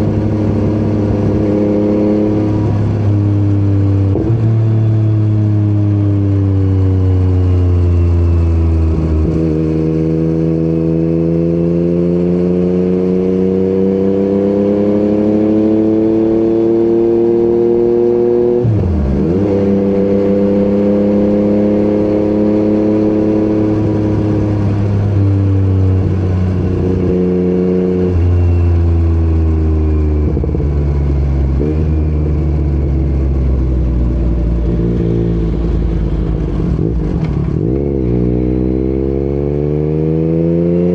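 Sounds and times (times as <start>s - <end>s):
motorcycle engine on the road: 0.0s - 40.9s.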